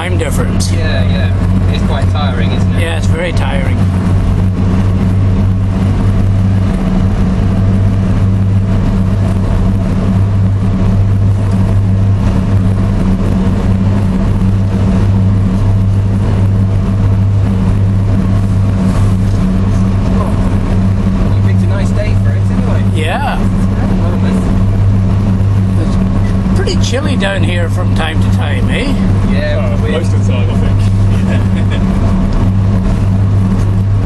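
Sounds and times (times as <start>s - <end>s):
ship engines droning: 0.0s - 34.0s
water rushing: 0.0s - 34.0s.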